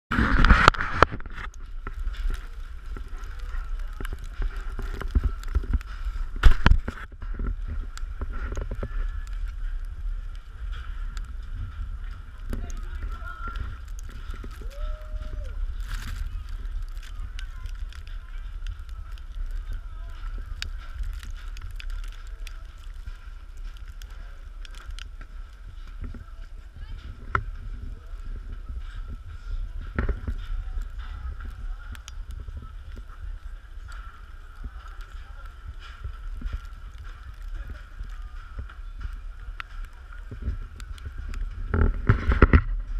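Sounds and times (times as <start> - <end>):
wind rumbling on microphone: 0.0 - 42.9
footsteps in slushy snow: 0.1 - 42.9.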